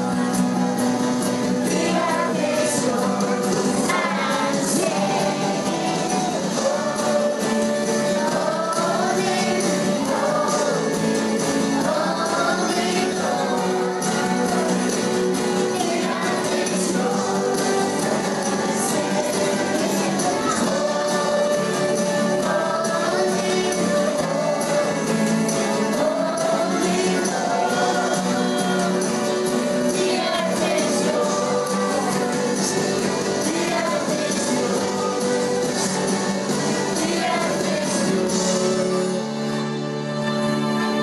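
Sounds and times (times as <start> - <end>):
band accompaniment: 0.0 - 41.0
choir singing: 0.0 - 41.0.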